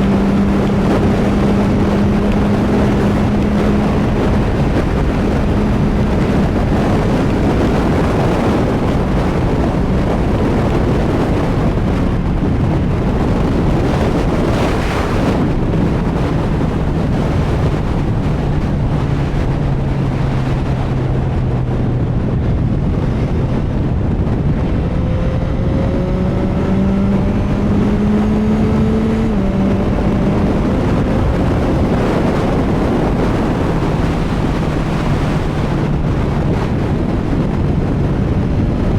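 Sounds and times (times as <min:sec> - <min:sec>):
motorcycle engine: 0:00.0 - 0:38.9
wind rushing over microphone: 0:00.0 - 0:38.9.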